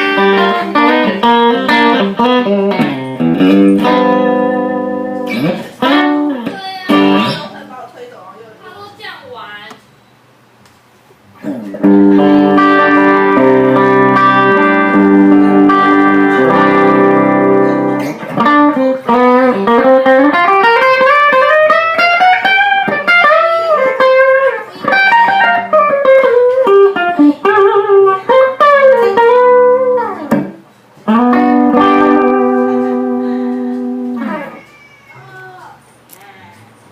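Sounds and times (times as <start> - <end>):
electric guitar playing: 0.0 - 7.6, 11.4 - 34.6.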